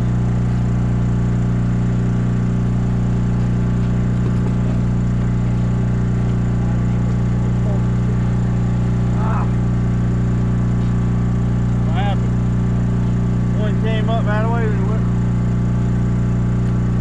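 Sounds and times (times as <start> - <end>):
generator engine droning: 0.0 - 17.0.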